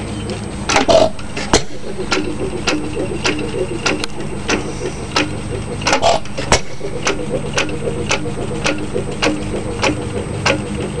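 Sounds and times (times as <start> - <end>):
engine clicks: 0.0 - 11.0
gas engine running: 0.0 - 11.0.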